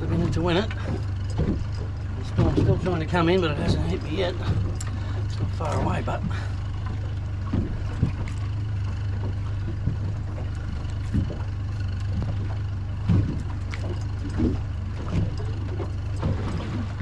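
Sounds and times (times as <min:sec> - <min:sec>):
boat motor idling: 0:00.0 - 0:17.0
water knocking against hull: 0:00.0 - 0:17.0.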